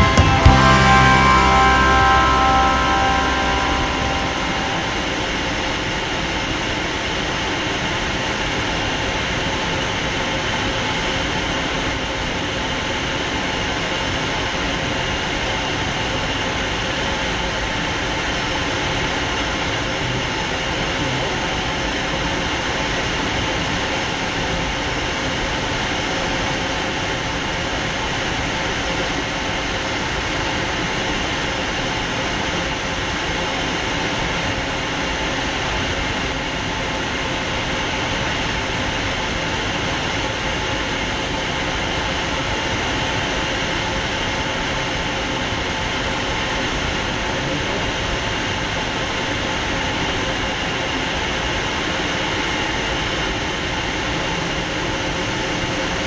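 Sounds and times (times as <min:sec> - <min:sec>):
jet engine whine: 0:00.0 - 0:47.4.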